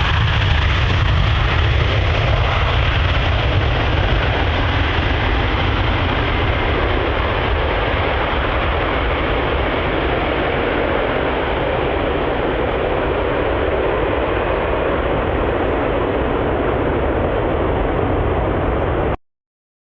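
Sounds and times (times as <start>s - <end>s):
jet engines roaring at takeoff: 0.0s - 19.2s.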